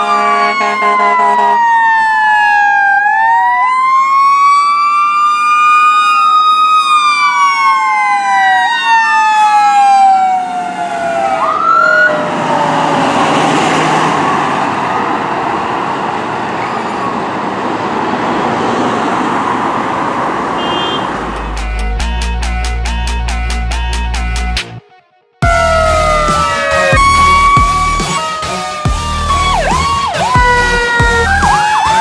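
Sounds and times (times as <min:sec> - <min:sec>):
fire engine sirens: 0:00.0 - 0:21.8, 0:25.4 - 0:32.0
passing traffic noise: 0:00.0 - 0:24.7, 0:25.5 - 0:32.0.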